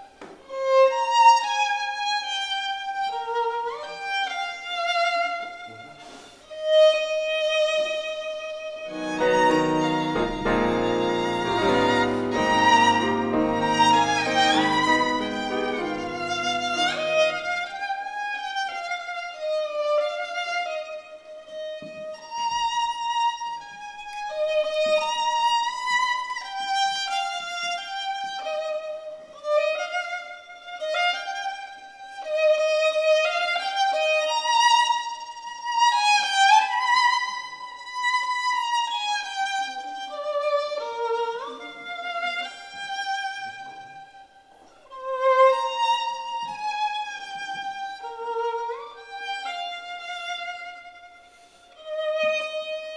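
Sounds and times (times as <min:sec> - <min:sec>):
solo violin melody: 0:00.0 - 0:52.9.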